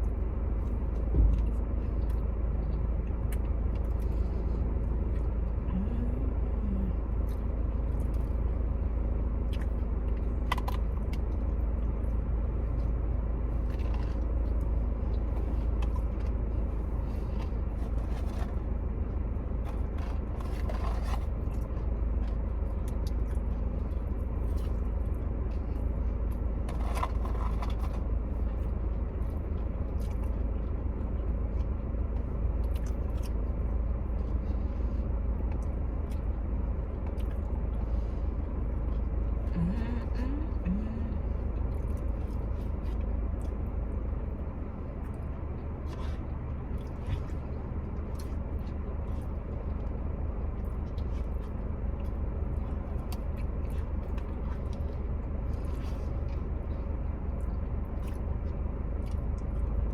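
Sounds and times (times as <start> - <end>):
steady low rumble: 0.0 - 59.9
eating sounds: 9.4 - 59.9.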